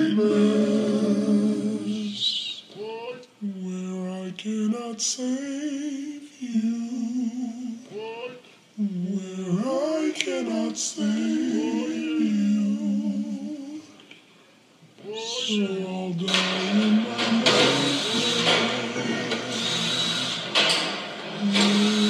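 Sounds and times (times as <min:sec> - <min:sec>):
person singing long notes: 0:00.0 - 0:13.9, 0:15.0 - 0:20.6, 0:21.4 - 0:22.0.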